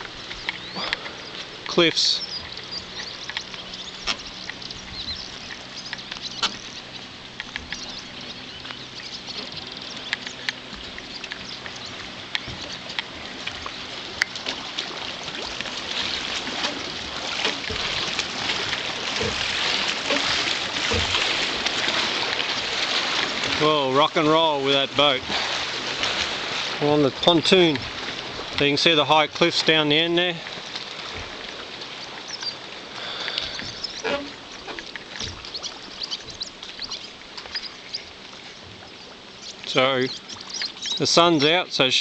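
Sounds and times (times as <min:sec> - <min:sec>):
faint engine hum: 0:00.0 - 0:42.0
waves slapping against pontoon: 0:00.0 - 0:42.0.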